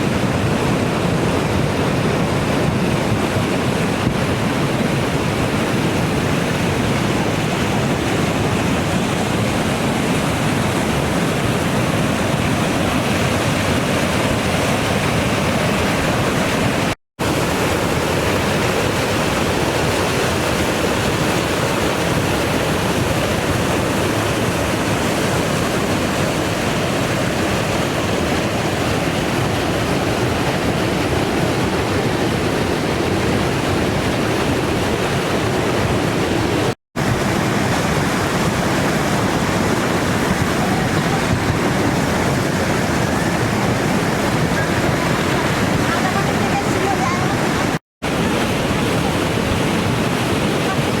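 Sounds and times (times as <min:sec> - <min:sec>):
river in flood rushing: 0:00.0 - 0:51.0.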